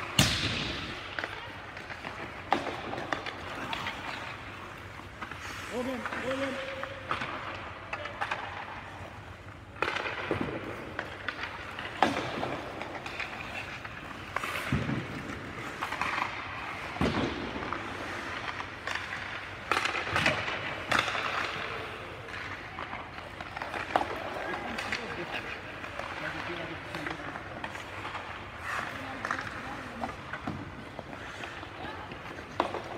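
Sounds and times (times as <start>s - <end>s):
hockey sticks hitting pucks: 0.0s - 32.9s
pucks hitting boards: 0.0s - 32.9s
skates scraping ice: 0.0s - 32.9s.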